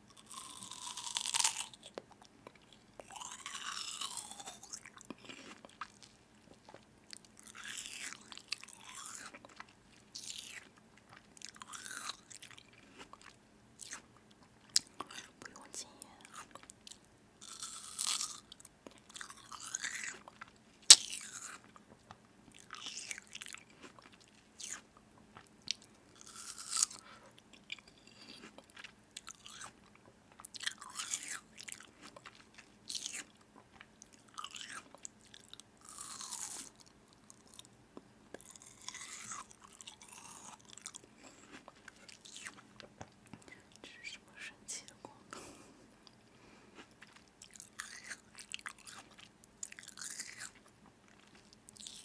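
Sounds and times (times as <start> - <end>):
person chewing crunchy food: 0.1 - 52.0.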